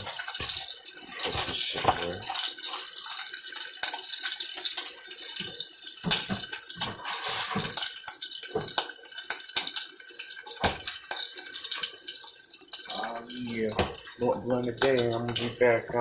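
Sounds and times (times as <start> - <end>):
bacon sizzling in a frying pan: 0.0 - 16.0.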